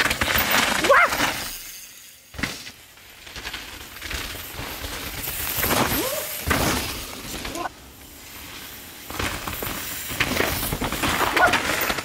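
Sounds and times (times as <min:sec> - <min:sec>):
bikes rattling: 0:00.0 - 0:12.0
bike tyres scrubbing through mud: 0:02.3 - 0:12.0.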